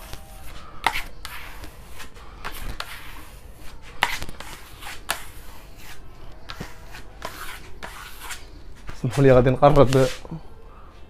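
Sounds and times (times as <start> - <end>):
spatula scraping plaster on wall: 0.0 - 10.2.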